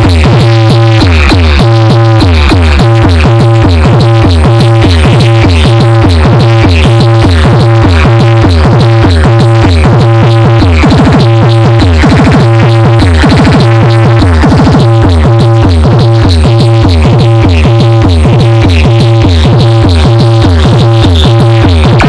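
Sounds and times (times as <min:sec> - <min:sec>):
electronic dance music: 0:00.0 - 0:22.0.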